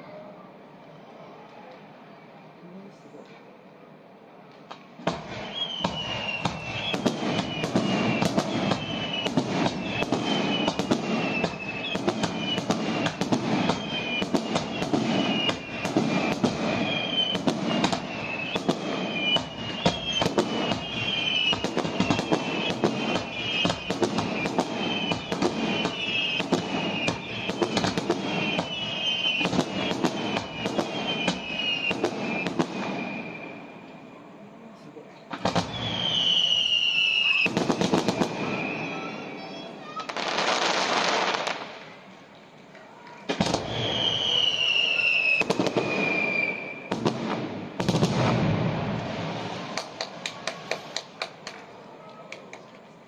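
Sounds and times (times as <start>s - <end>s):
fireworks bangs and crackles: 4.6s - 34.2s, 35.2s - 52.7s
fireworks whistles falling in pitch: 5.0s - 34.0s, 35.3s - 41.8s, 43.3s - 51.2s.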